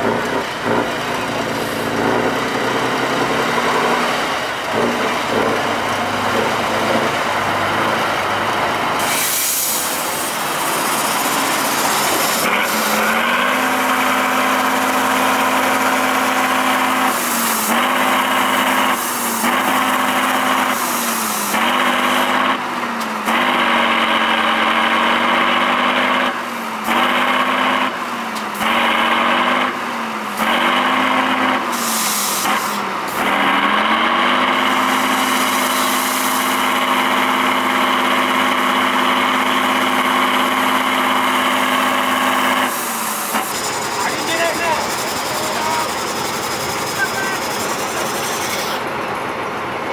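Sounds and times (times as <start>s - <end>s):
truck diesel engine revving: 0.0s - 49.9s.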